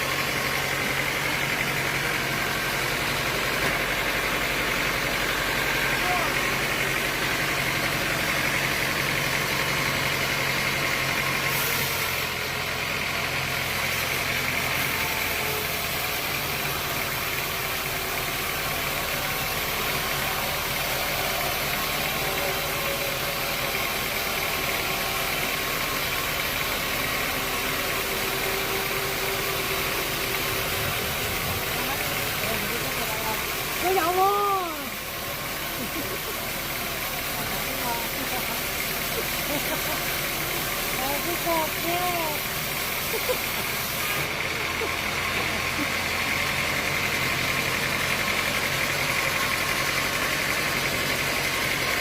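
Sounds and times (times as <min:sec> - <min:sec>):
engine running with hiss: 0:00.0 - 0:52.0.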